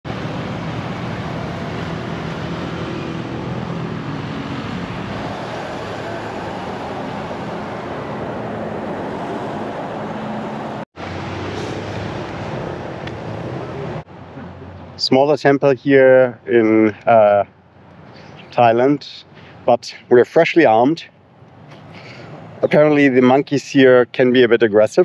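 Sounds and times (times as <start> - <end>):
city traffic engines humming: 0.1 - 24.4.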